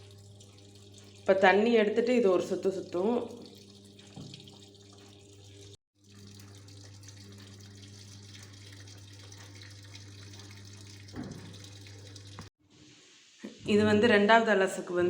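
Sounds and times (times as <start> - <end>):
washing machine low hum: 0.0 - 12.5
water rushing into washing machine: 0.0 - 12.5.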